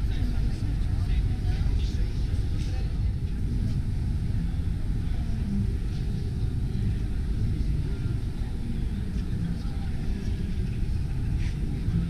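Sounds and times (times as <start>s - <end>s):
faint distant voices: 0.0s - 12.0s
low rumble of hall: 0.0s - 12.0s.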